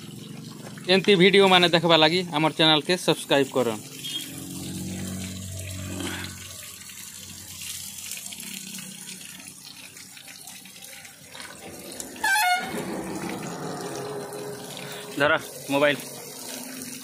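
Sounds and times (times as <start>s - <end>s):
water gushing into basin: 0.0s - 17.0s.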